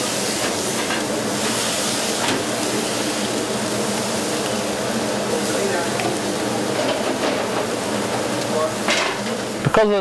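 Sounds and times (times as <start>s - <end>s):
grill rushing noise: 0.0s - 9.7s
meat sizzling on grill: 0.0s - 9.7s.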